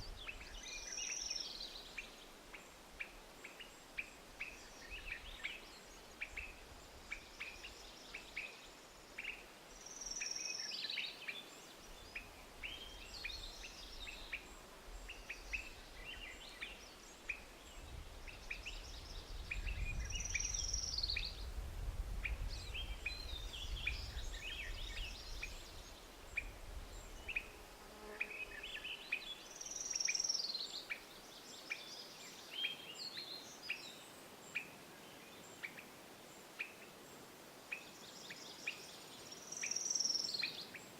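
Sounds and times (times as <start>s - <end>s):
small birds chirping: 0.0s - 21.5s, 28.2s - 40.9s.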